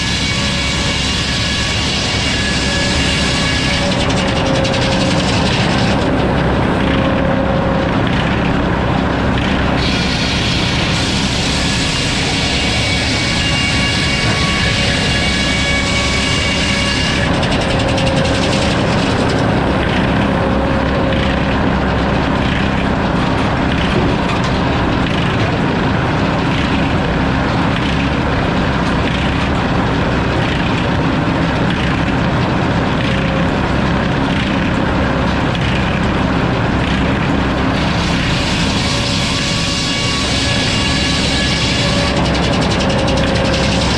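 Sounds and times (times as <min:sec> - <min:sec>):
sawmill sawing a log: 0:00.0 - 0:43.9.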